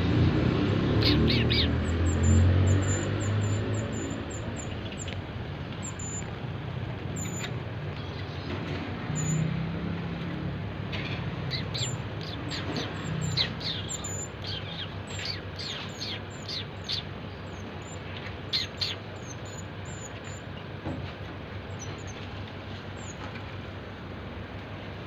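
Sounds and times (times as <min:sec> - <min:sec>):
songbird chirping: 0:00.3 - 0:10.3, 0:11.0 - 0:20.8, 0:21.6 - 0:23.4.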